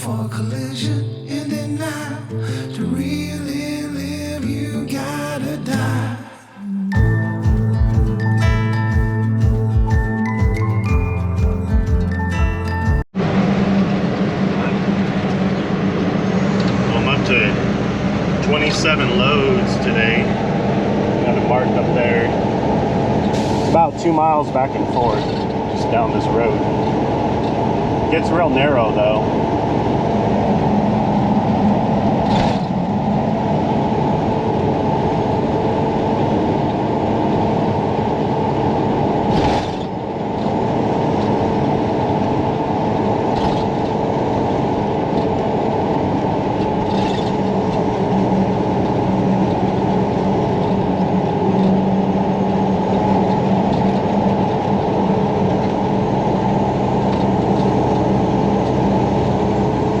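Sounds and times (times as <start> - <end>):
truck engine from inside cab: 2.5 - 60.0.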